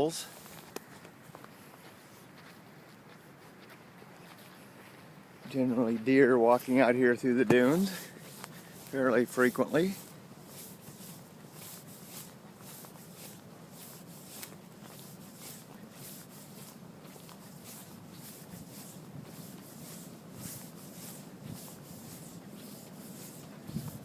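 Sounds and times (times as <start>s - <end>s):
footsteps on sand: 0.0s - 24.0s.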